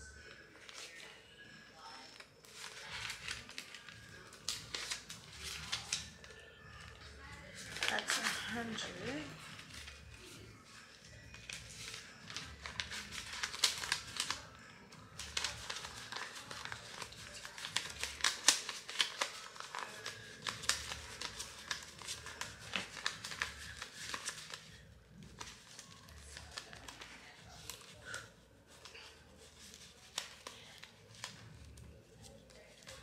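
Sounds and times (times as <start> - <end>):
paper bills flicked while counting: 1.8 - 33.0.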